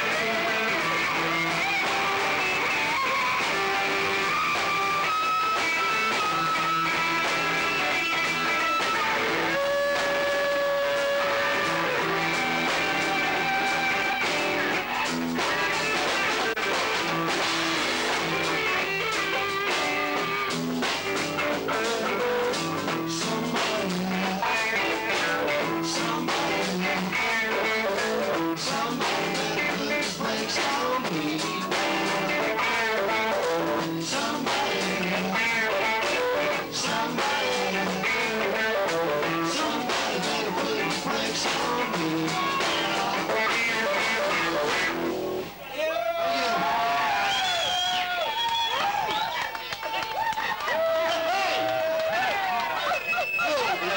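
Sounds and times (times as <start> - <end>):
drums hitting steadily: 0.0 - 45.5
electric guitar lead notes: 0.0 - 45.5.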